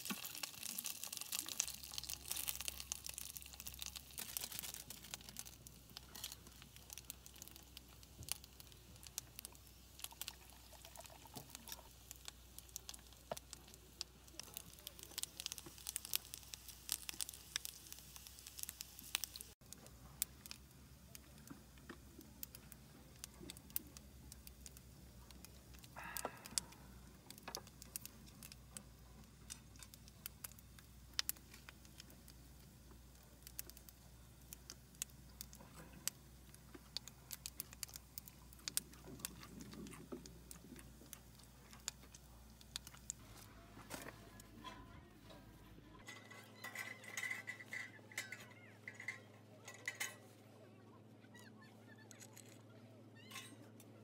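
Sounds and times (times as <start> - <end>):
wood stove crackling and popping: 0.0 - 54.0.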